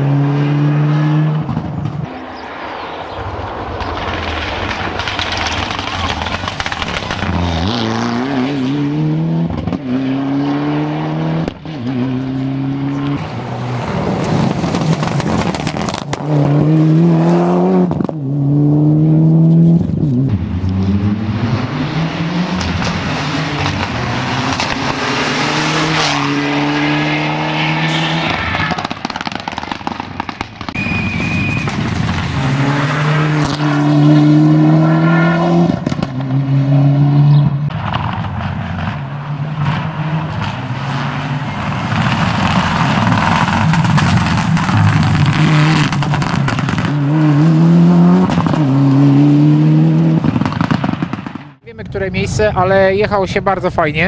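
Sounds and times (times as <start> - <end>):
rally car engine at full throttle: 0.0 - 29.8, 30.7 - 52.4.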